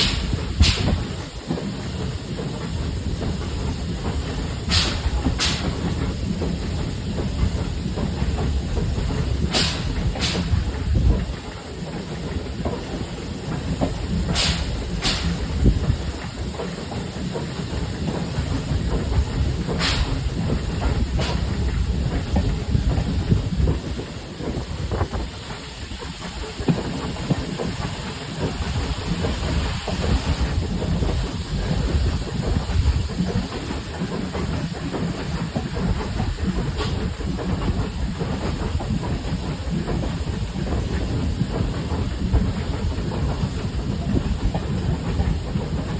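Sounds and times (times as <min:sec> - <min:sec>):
carriage wheels rumbling on track: 0:00.0 - 0:45.9
steam hissing: 0:00.0 - 0:45.9.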